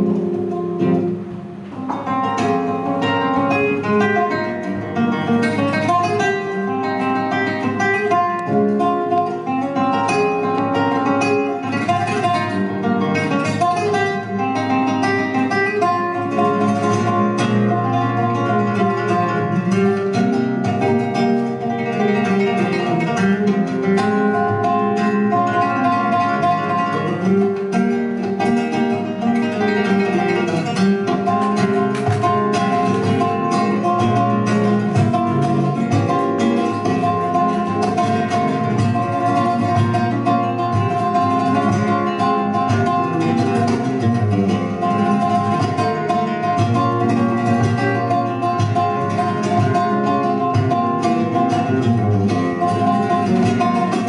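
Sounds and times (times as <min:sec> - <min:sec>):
flamenco guitar: 0:00.0 - 0:54.0.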